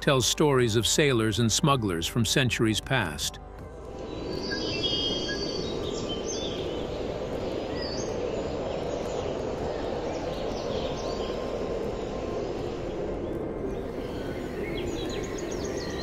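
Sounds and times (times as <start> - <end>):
birds chirping: 0.0 - 16.0
steady rushing hiss: 0.0 - 16.0.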